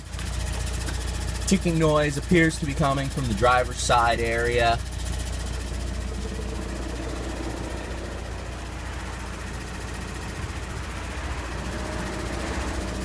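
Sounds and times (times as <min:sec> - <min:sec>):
diesel engine idling: 0:00.0 - 0:13.0
rapid ticking from engine: 0:00.0 - 0:13.0.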